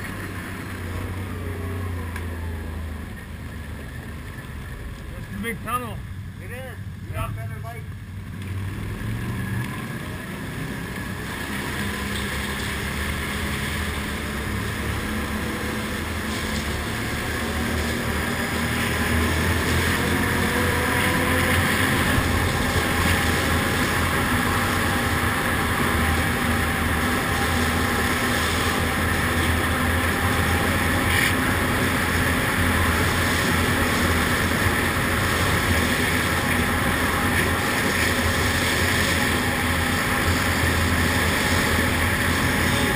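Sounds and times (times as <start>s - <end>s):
quad engine running: 0.0s - 42.9s.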